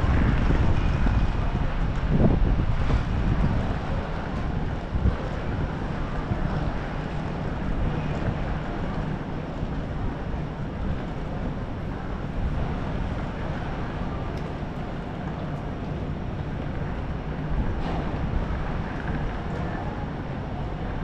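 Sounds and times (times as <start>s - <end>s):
city street traffic rumble: 0.0s - 21.0s
wind noise on microphone: 0.0s - 21.0s.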